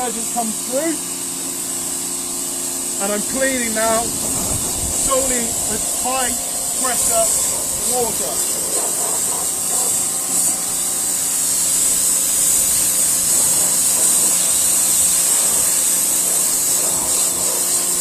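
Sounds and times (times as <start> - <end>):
high-pressure water jet hissing: 0.0 - 18.0
pressure washer motor humming: 0.0 - 18.0.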